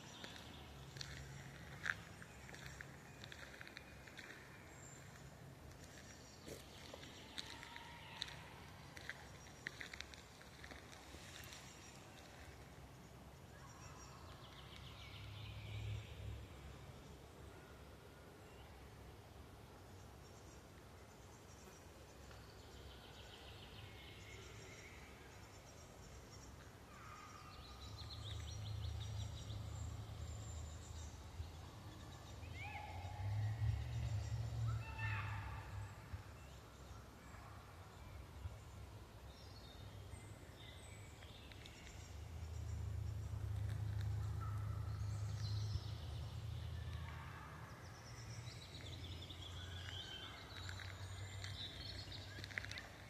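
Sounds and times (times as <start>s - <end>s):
forest birds singing: 0.0s - 53.0s.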